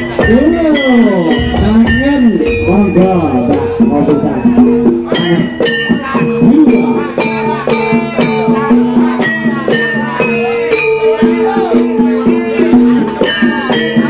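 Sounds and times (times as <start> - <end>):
drum strokes: 0.0 - 14.0
gamelan ringing notes: 0.0 - 14.0.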